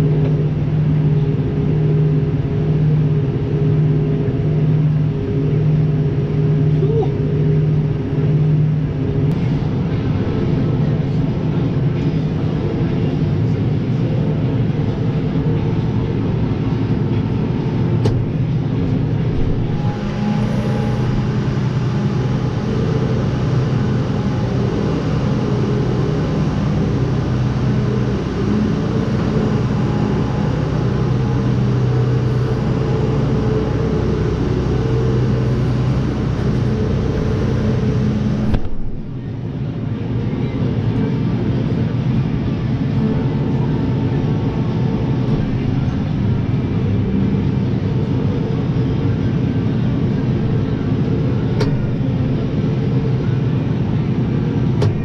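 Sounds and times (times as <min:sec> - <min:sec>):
tractor engine running: 0:07.4 - 0:55.0.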